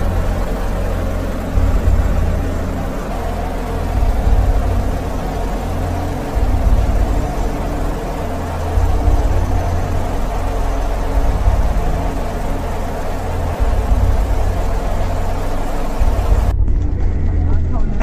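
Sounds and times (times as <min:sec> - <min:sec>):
faint hum: 0:00.0 - 0:18.0
low rumble: 0:00.0 - 0:18.0.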